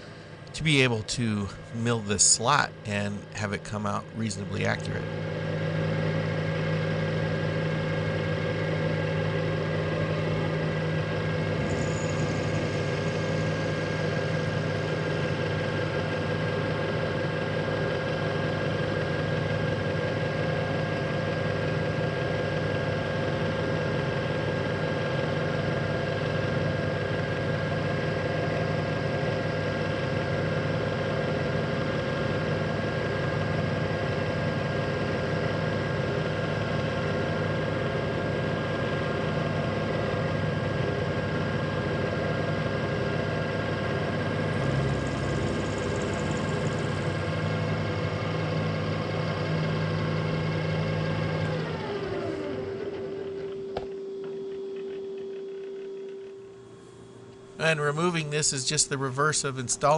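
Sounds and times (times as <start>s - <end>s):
milling machine humming: 0.0s - 58.8s.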